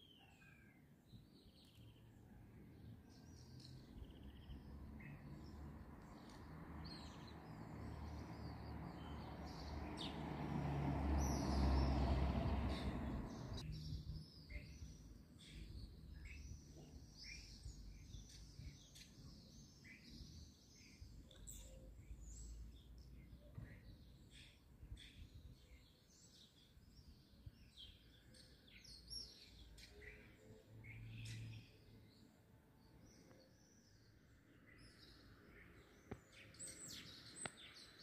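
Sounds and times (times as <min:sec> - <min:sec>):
small birds chirping: 0:00.0 - 0:10.4, 0:11.2 - 0:38.0.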